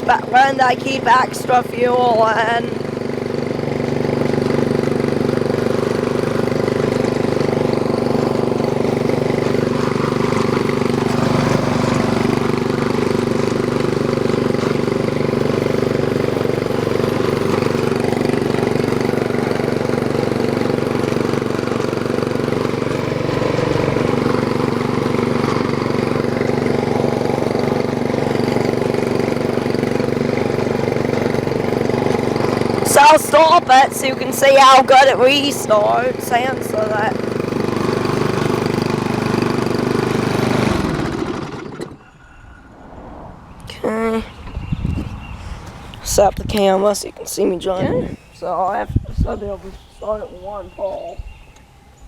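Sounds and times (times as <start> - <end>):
small engine running: 0.0 - 42.6.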